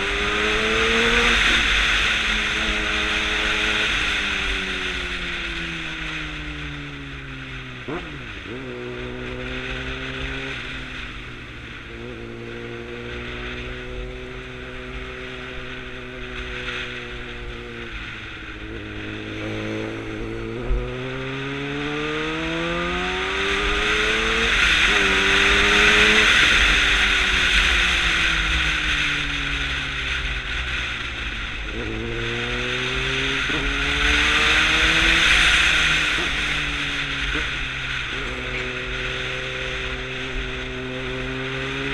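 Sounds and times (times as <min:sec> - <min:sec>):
motorcycle engine revving: 0:00.0 - 0:41.9
wind rush: 0:07.9 - 0:41.9.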